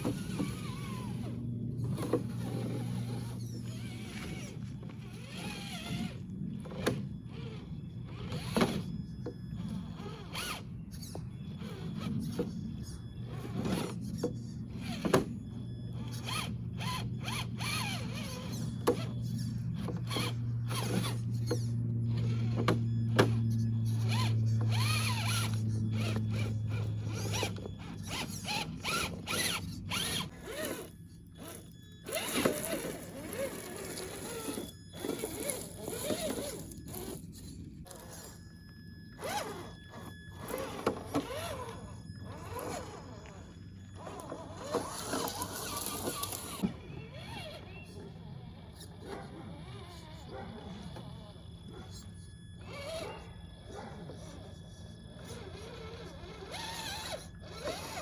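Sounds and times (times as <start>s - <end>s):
toy car motor whirring: 0.0s - 58.0s.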